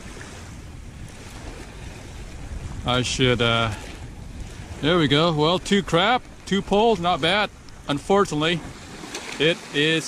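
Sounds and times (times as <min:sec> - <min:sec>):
wind rumble on microphone: 0:00.0 - 0:09.4
ocean surf: 0:00.0 - 0:10.0
wind: 0:00.0 - 0:10.0.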